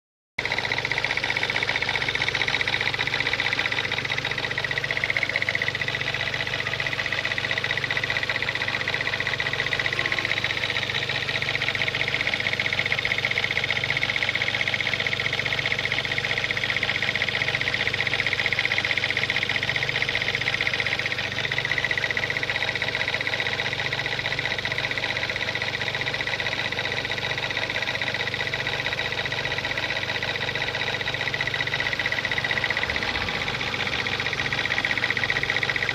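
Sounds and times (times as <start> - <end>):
car engine running: 0.4 - 35.9.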